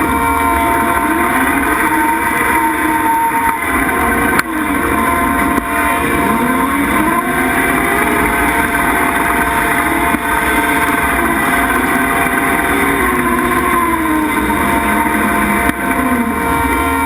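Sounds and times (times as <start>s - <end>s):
constant high whine: 0.0s - 17.0s
engine and mower drone: 0.0s - 17.0s.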